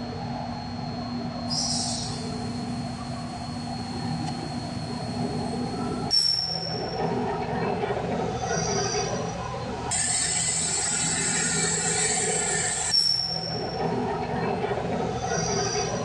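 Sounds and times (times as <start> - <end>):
machine hum with high whine: 0.0 - 16.0.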